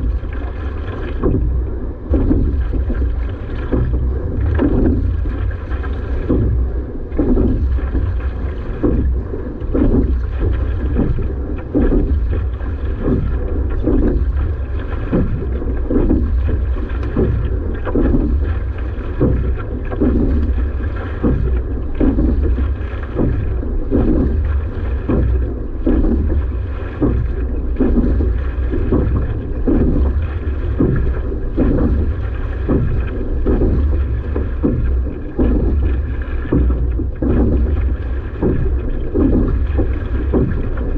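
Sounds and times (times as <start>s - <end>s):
continuous low rumble: 0.0s - 40.9s
rowing stroke surges: 0.0s - 40.9s.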